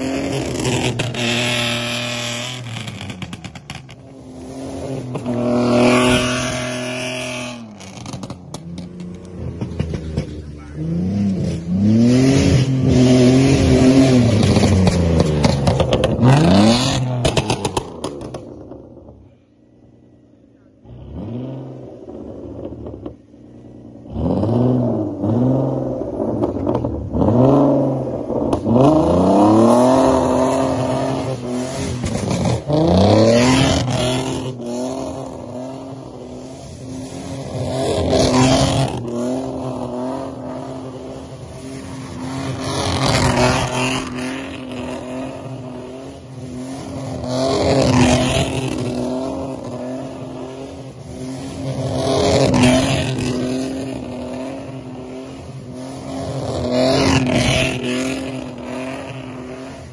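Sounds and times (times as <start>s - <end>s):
car engine revving hard: 4.2s - 8.4s, 9.8s - 18.5s, 20.9s - 59.9s.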